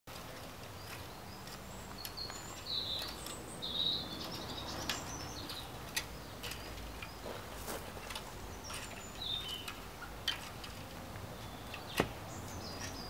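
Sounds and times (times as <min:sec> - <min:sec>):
outdoor background noise: 0:00.1 - 0:13.0
rake scraping soil: 0:00.1 - 0:13.0
small birds chirping: 0:00.1 - 0:13.0.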